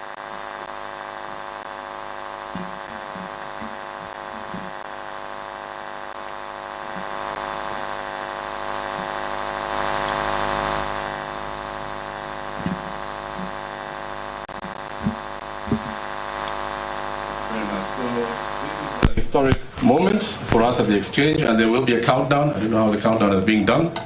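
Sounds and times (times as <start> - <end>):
steady buzzing hum: 0.0 - 24.0.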